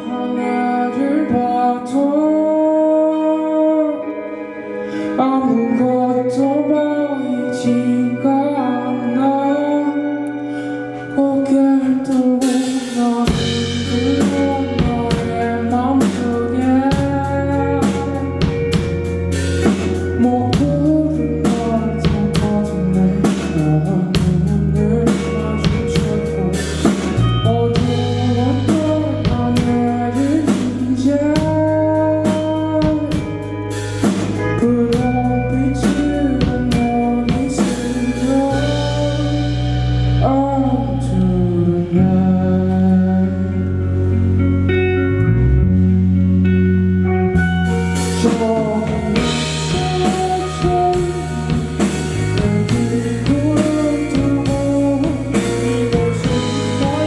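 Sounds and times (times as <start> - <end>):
live band music: 0.0 - 57.0.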